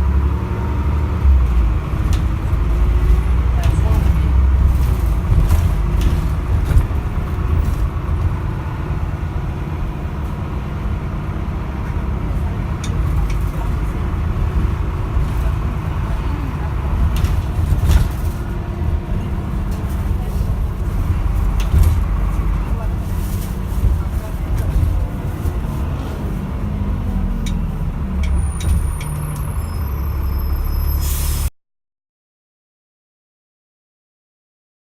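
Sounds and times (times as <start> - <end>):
bus engine and road rumble: 0.0 - 31.5.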